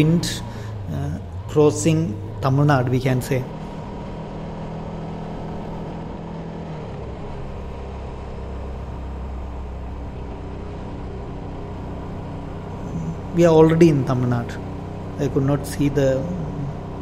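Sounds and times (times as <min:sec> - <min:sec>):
motorcycle engine drone: 0:00.0 - 0:17.0
wind and road noise: 0:00.0 - 0:17.0.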